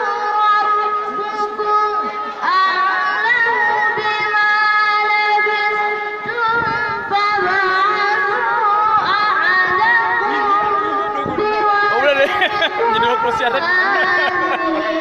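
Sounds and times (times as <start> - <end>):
boy chanting recitation: 0.0 - 15.0.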